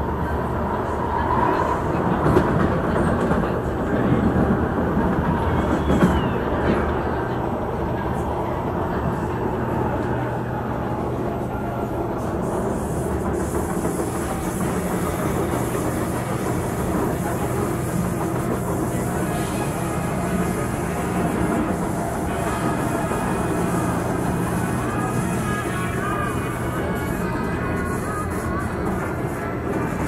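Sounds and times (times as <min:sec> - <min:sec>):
wheels rumbling on rail: 0:00.0 - 0:30.0.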